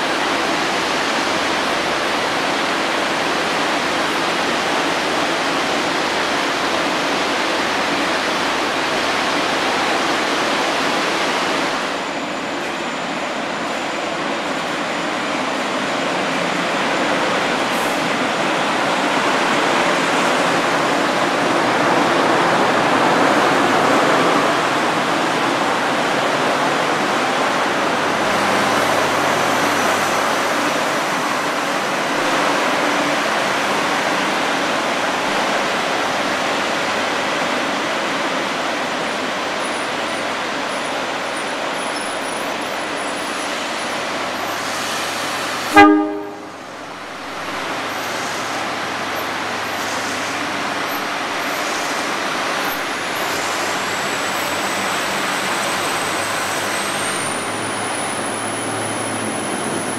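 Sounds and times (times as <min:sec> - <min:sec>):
diesel train engine and wheels: 0:00.0 - 0:59.9.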